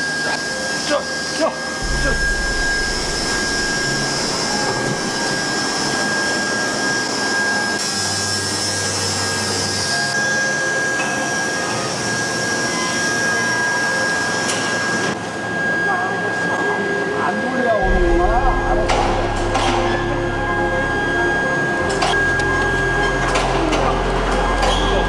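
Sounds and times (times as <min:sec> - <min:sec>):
electric hoist running: 0:00.0 - 0:25.0
foundry machinery whirring: 0:00.0 - 0:25.0
high whine: 0:00.0 - 0:25.0.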